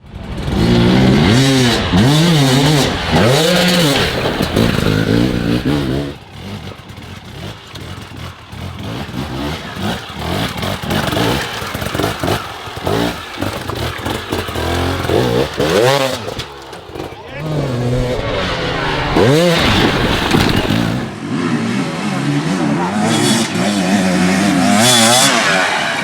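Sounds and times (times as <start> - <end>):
dirt bike engine revving: 0.0 - 26.0
bike clattering over rough ground: 0.2 - 21.2.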